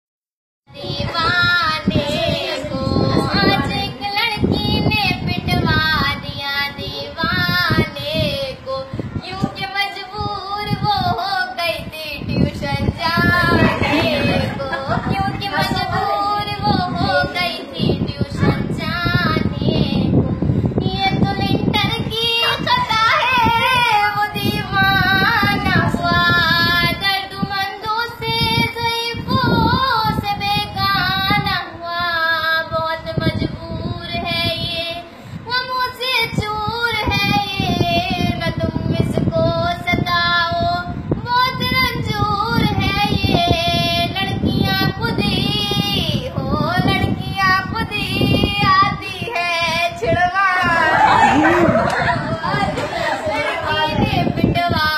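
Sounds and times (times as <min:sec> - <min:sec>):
girl singing solo: 0:00.7 - 0:54.9.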